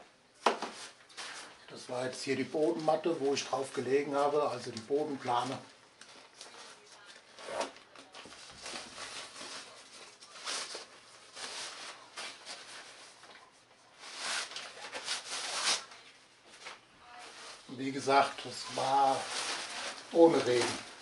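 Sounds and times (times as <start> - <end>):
plastic sheet rustling: 0.4 - 21.0.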